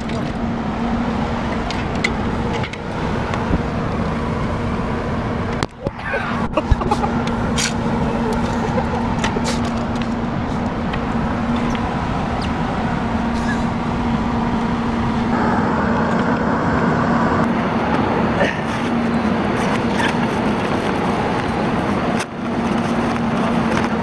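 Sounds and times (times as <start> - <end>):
motor vehicle hum: 0.0 - 24.0.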